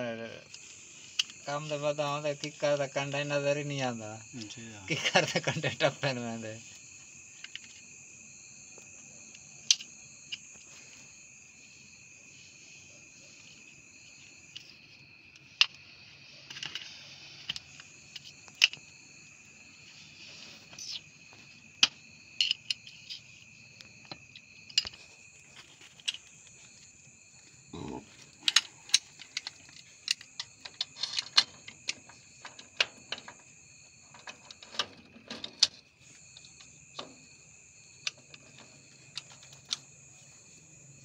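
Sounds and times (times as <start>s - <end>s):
crickets trilling: 0.0s - 41.0s.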